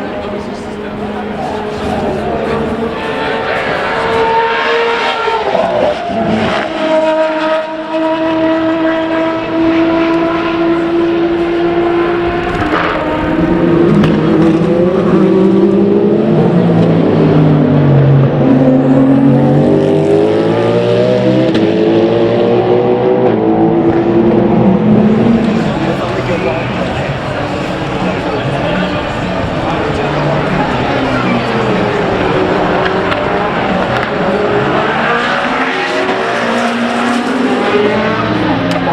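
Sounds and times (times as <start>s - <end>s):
racing car engines: 0.0s - 38.9s.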